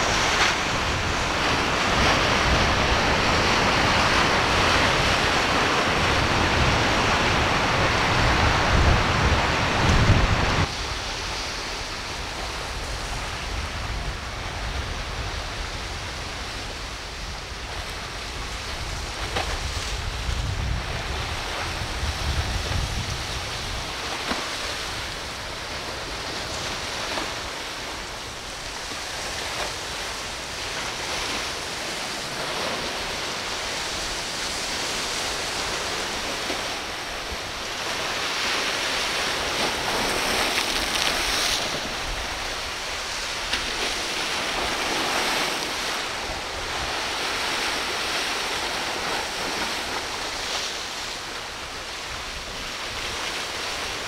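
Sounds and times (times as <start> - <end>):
ocean waves breaking: 0.0 - 54.0
wind on microphone: 0.0 - 54.0.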